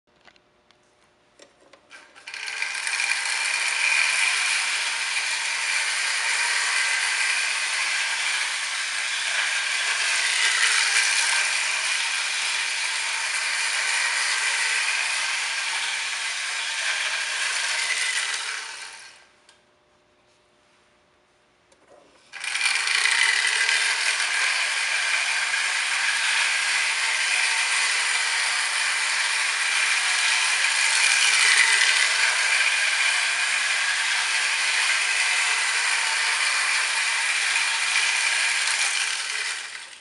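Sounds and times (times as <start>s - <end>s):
toy train running on track: 2.1s - 19.2s, 22.4s - 40.0s.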